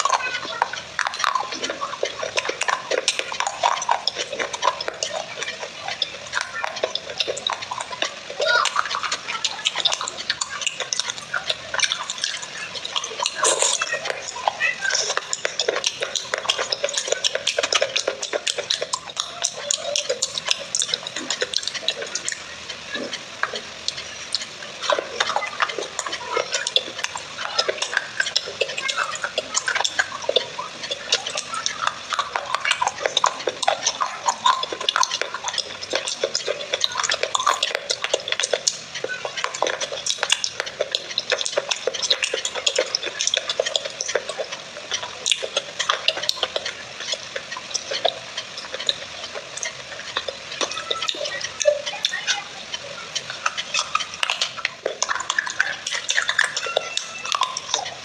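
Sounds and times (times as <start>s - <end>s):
wet clay squelching: 0.0s - 58.0s.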